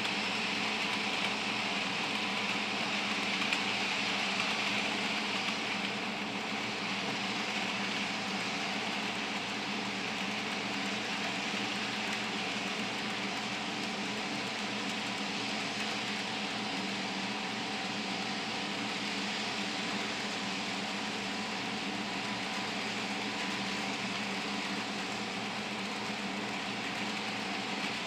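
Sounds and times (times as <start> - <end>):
model train motor humming: 0.0 - 28.0.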